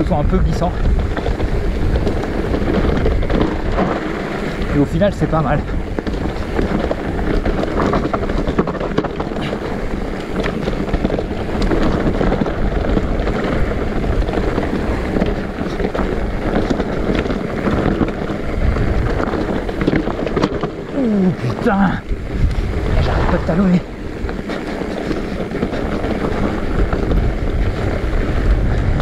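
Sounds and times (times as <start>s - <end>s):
bike rattles and knocks: 0.0s - 29.0s
tyres rumbling on ground: 0.0s - 29.0s
wind buffeting microphone: 0.0s - 29.0s.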